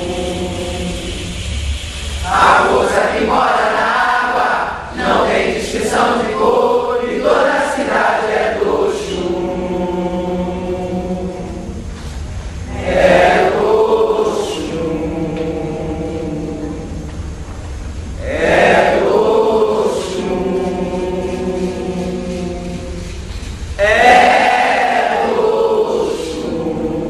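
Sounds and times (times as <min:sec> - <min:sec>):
group of voices singing a chant: 0:00.0 - 0:17.3, 0:18.1 - 0:27.0.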